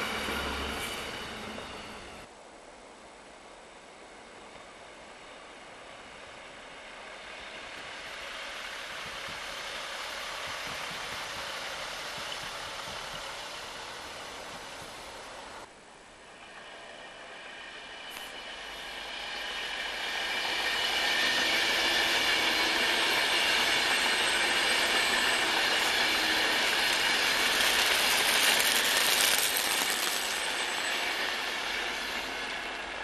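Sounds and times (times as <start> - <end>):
electric train passing at speed: 0.0 - 33.0.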